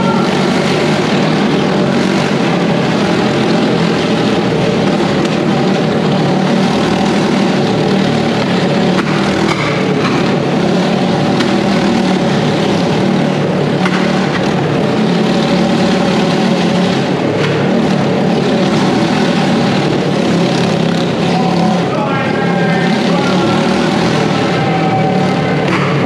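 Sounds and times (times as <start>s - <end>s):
motorcycle engines revving high: 0.0s - 26.0s.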